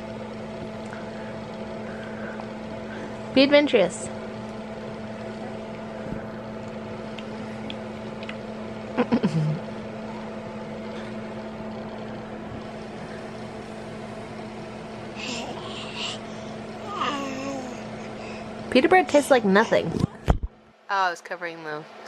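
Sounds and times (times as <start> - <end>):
muffled steady hum: 0.0 - 21.2.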